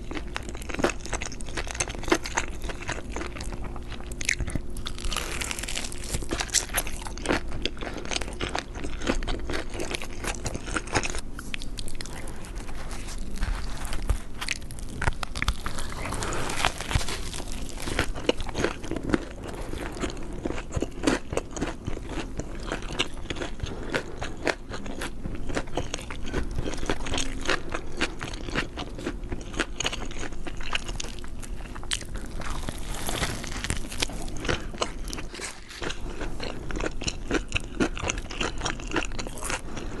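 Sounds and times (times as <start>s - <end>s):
person biting and chewing food: 0.0s - 40.0s.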